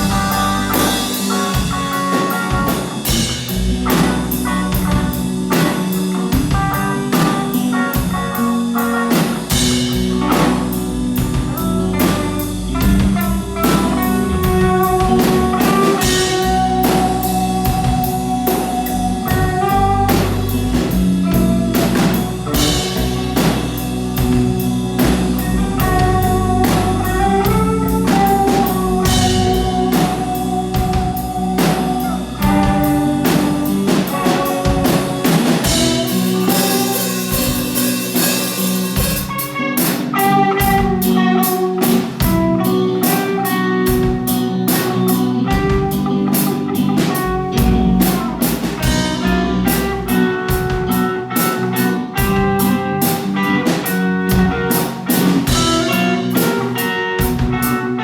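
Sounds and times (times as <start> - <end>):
drum kit beat: 0.0 - 58.0
rock guitar chords: 0.0 - 58.0.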